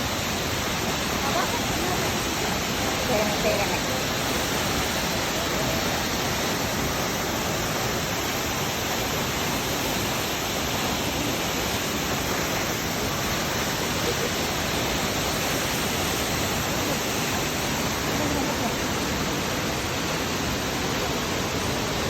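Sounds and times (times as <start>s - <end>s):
waterfall crashing: 0.0s - 22.0s.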